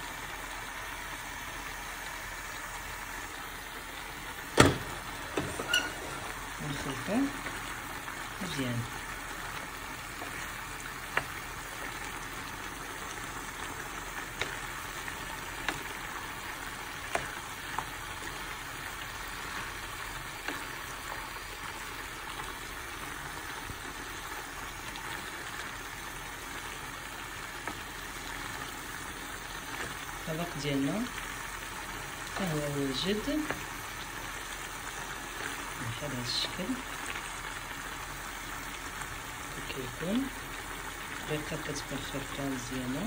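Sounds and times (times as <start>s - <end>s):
food sizzling in a pan: 0.0s - 43.0s.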